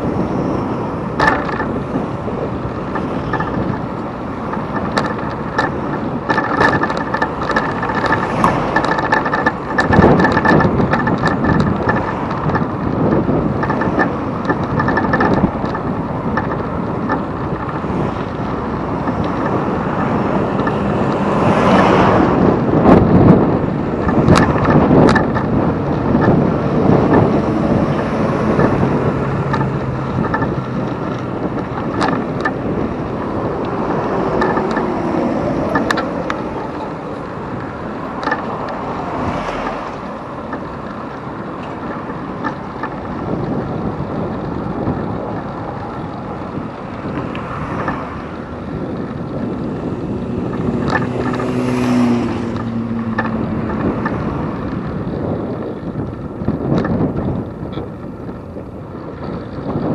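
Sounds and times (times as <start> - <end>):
bicycle riding noise: 0.0 - 59.9
motor vehicles passing: 0.0 - 59.9
wind buffeting microphone: 0.0 - 59.9.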